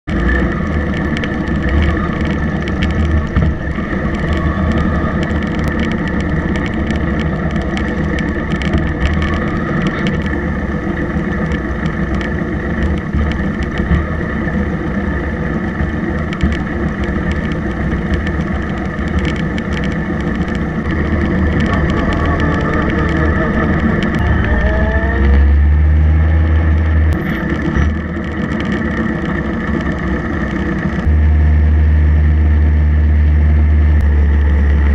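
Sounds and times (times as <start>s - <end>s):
motorcycle accelerating: 0.0s - 34.9s
motorcycle engines running: 0.0s - 34.9s.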